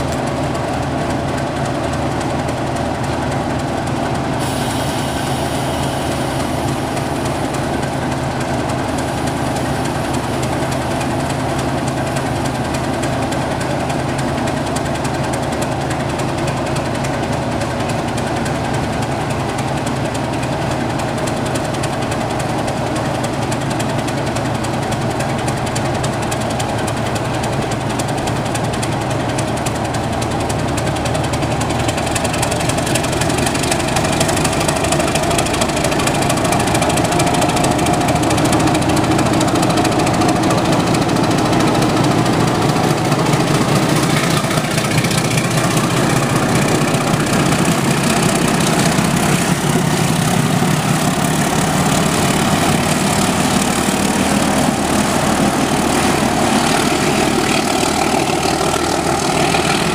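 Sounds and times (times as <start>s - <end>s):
diesel locomotive engines: 0.0s - 59.9s.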